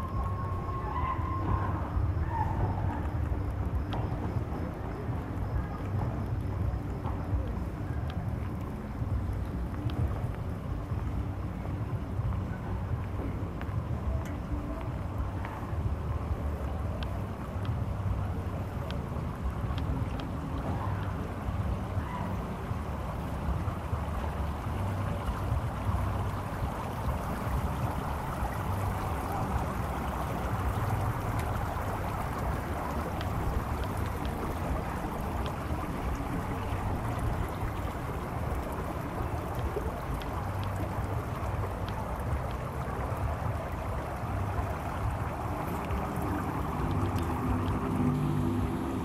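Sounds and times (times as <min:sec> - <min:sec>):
water rushing: 0:00.0 - 0:49.0
wind rumbling on microphone: 0:00.0 - 0:49.0.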